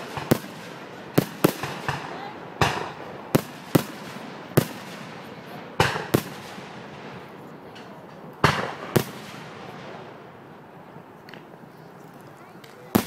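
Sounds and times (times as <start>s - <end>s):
fireworks bursting with echoes: 0.0s - 13.0s.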